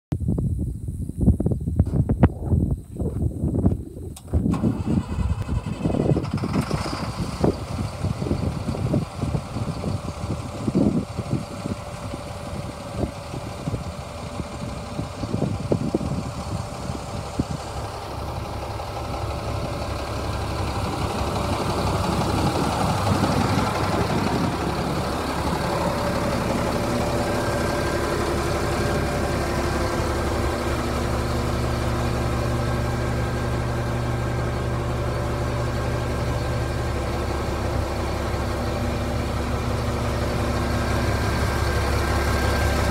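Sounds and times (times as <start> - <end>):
truck engine idling: 4.1 - 42.9
engine knocks: 4.3 - 42.9.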